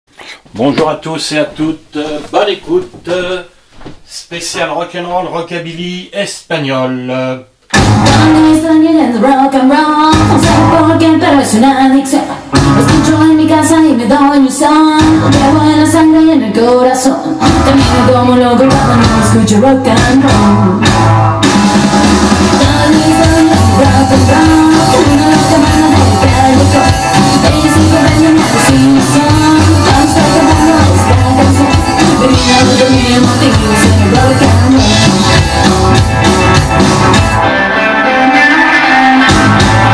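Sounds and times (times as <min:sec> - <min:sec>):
rockabilly song with singing: 0:07.7 - 0:39.9.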